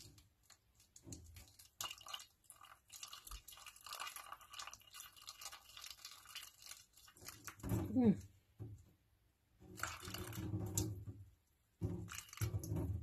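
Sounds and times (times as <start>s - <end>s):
water pouring into paper cup: 0.0s - 8.2s, 9.6s - 11.0s, 11.8s - 13.0s.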